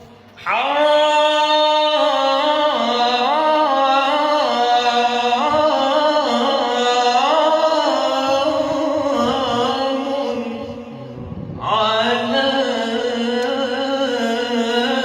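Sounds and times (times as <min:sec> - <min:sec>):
man singing a devotional chant: 0:00.4 - 0:15.0.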